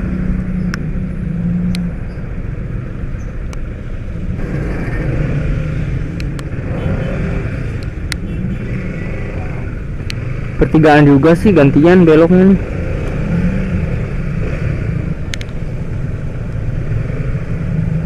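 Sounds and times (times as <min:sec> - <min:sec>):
motorcycle engine at low speed: 0:00.0 - 0:18.0
rain and road noise: 0:00.0 - 0:18.0.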